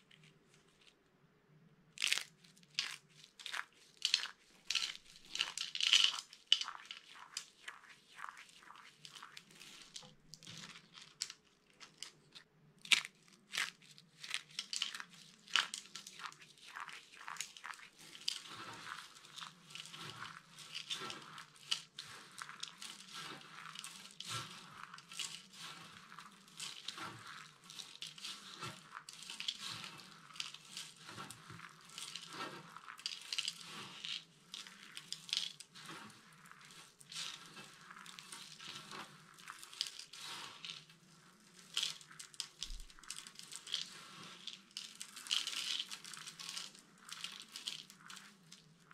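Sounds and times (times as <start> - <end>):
hands crunching dry soap chips: 1.9 - 48.9.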